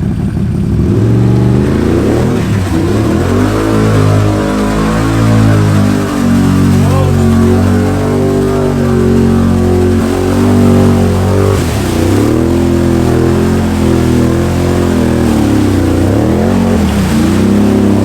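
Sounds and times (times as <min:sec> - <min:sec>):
quad bike engine revving: 0:00.0 - 0:18.0.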